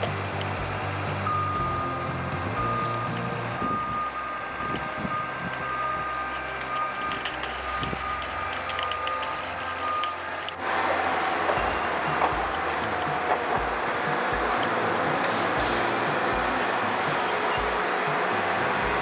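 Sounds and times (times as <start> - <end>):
diesel engine running: 0.0 - 19.0
reversing alarm beeping: 0.0 - 19.0.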